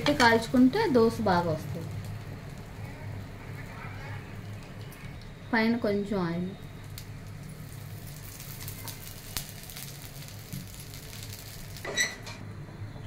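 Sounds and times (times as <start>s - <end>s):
oil sizzling in a pan: 0.0s - 12.2s.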